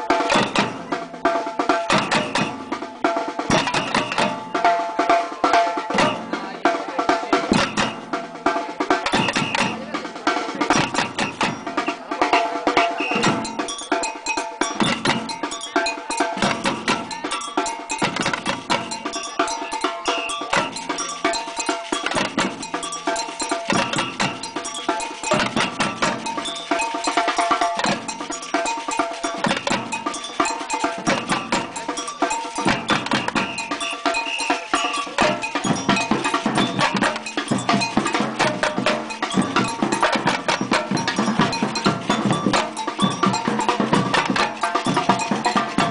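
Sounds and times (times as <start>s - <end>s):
snare drums and cowbell groove: 0.0s - 45.9s.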